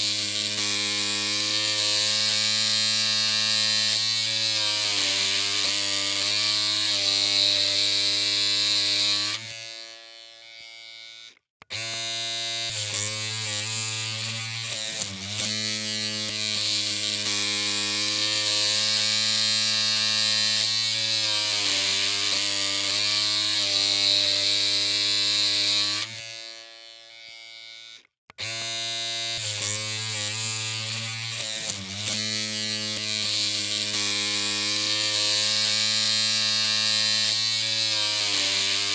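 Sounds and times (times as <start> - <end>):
electric hair clippers humming: 0.0 - 38.9.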